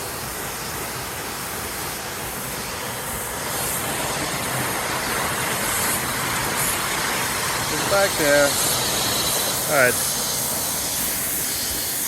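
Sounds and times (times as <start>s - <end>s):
waterfall roaring: 0.0s - 11.1s.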